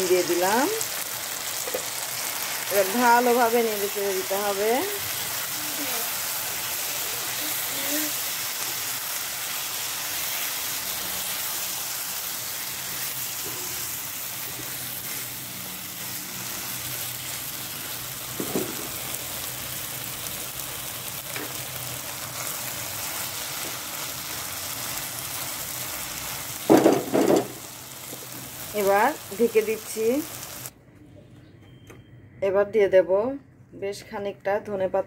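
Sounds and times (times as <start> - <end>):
food sizzling in a frying pan: 0.0 - 30.7.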